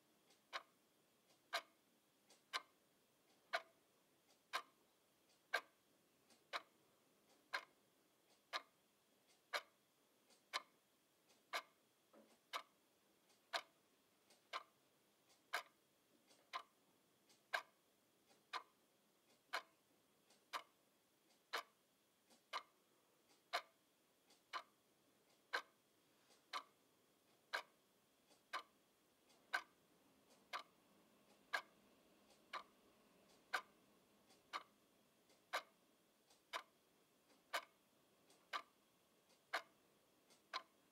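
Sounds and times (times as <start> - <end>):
alarm clock ticking: 0.0 - 40.9.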